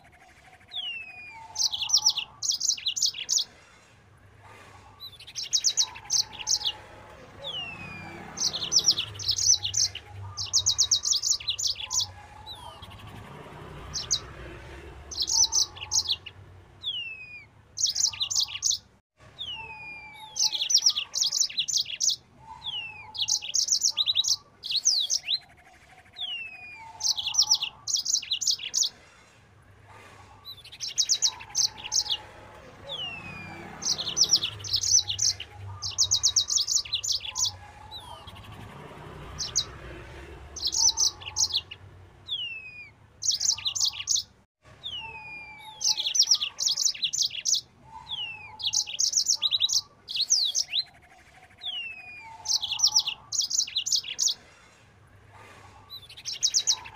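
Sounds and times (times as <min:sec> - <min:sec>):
canary singing high trills: 0:00.0 - 0:03.6, 0:05.0 - 0:14.4, 0:15.0 - 0:29.0, 0:30.4 - 0:39.8, 0:40.5 - 0:54.6, 0:55.8 - 0:56.9.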